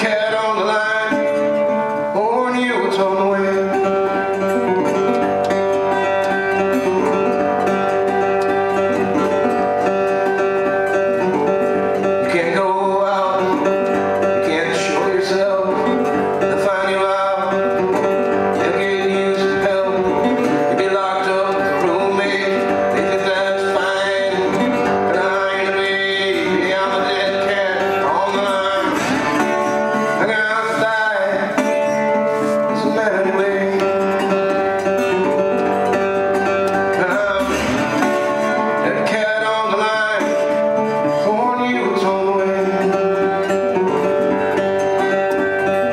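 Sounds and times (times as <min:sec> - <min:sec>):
acoustic guitar country-blues tune: 0:00.0 - 0:45.9.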